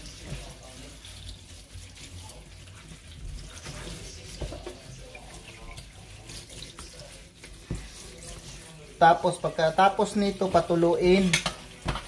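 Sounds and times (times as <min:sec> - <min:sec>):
tap water running into sink: 0:00.0 - 0:08.6, 0:09.3 - 0:12.0
hands rubbing wet leaves: 0:00.0 - 0:11.9.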